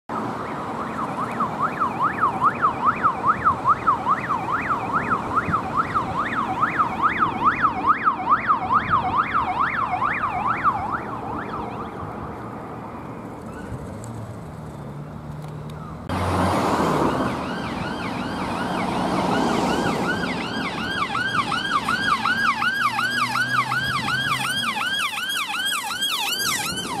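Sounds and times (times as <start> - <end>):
police siren yelping: 0.1 - 12.4, 17.0 - 27.0
tyre and engine noise: 0.7 - 27.0.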